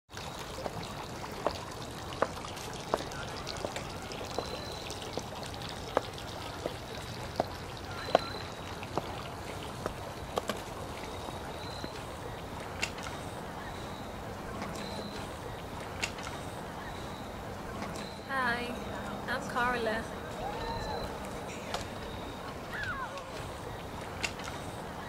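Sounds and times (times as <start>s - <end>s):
steady outdoor hiss: 0.1s - 25.0s.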